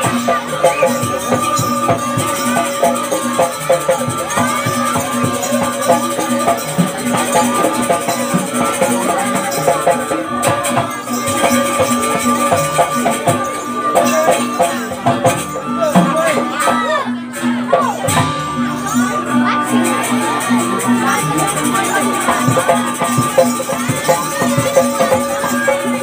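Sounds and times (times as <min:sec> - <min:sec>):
gamelan music: 0:00.0 - 0:26.0.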